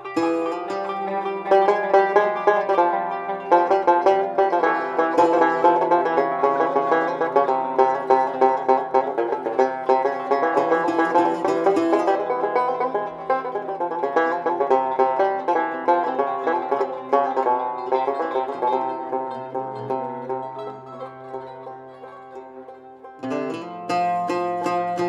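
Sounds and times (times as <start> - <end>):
oud plucked notes: 0.0 - 25.0.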